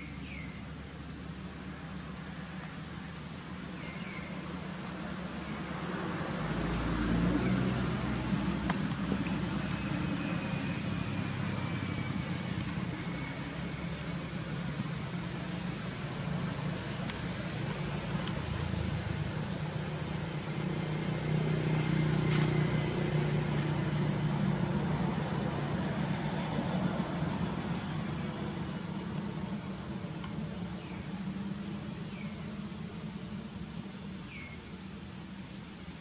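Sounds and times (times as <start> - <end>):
low engine hum: 0.0 - 36.0.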